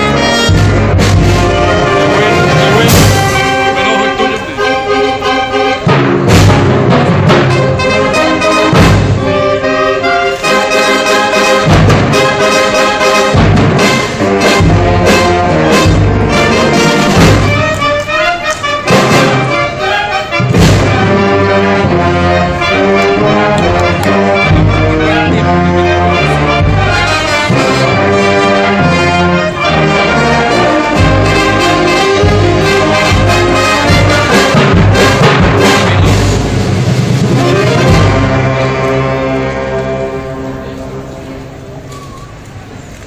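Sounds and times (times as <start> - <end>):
loud percussion hits: 0.0 - 9.7, 11.3 - 25.4, 26.4 - 39.1
wind band playing sustained chords: 0.0 - 43.0.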